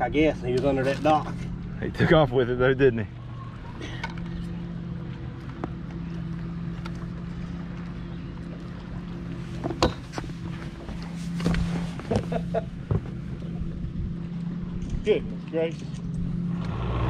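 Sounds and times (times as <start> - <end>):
low electric hum: 0.0 - 16.9.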